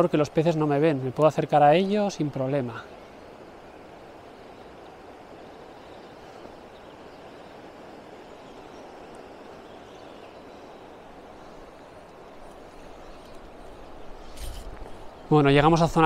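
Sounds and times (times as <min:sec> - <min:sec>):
fast-flowing river rushing: 0:00.0 - 0:14.2.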